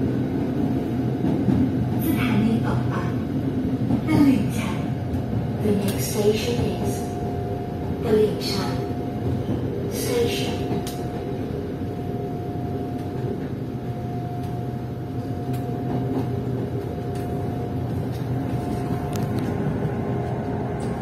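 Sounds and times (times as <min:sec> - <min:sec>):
electric train rumble: 0:00.0 - 0:21.0
train whine: 0:00.0 - 0:21.0.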